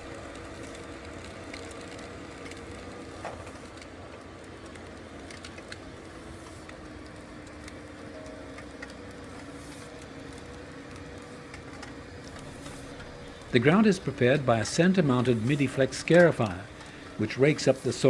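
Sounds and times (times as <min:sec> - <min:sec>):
machine engine hum: 0:00.0 - 0:18.0.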